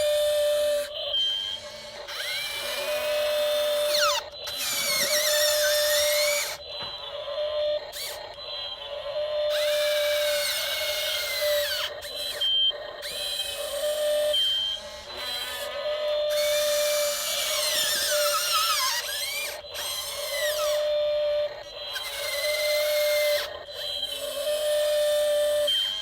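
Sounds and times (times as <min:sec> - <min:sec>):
small electric motors whining: 0:00.0 - 0:26.0.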